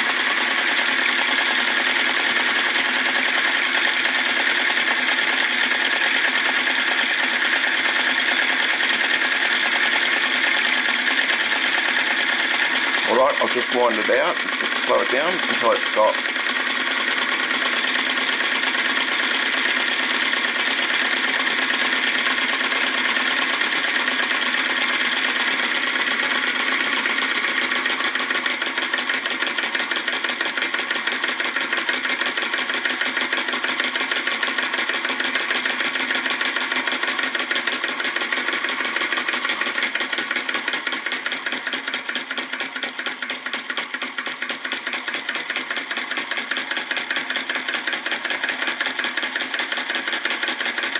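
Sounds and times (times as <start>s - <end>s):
small engine mechanical clatter: 0.0s - 50.9s.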